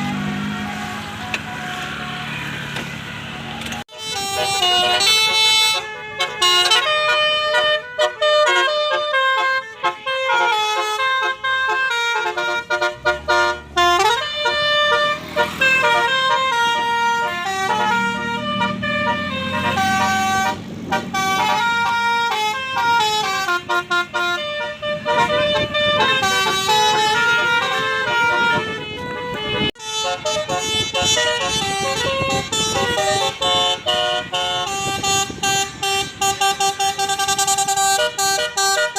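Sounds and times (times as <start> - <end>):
musical bus horn melody: 0.0 - 38.9.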